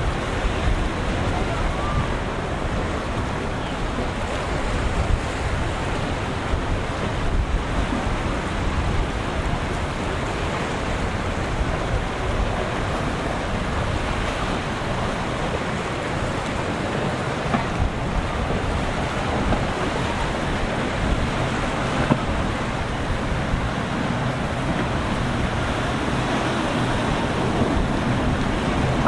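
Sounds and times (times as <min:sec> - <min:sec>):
rough surf rushing: 0:00.0 - 0:29.0
wind buffeting microphone: 0:00.0 - 0:29.0.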